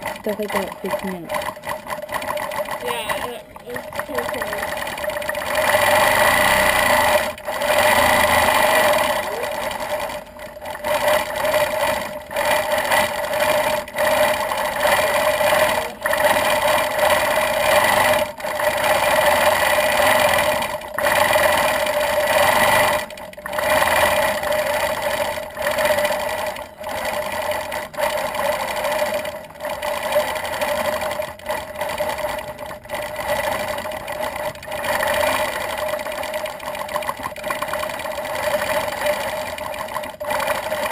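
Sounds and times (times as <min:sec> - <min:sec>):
quilting machine whining: 0:00.0 - 0:40.9.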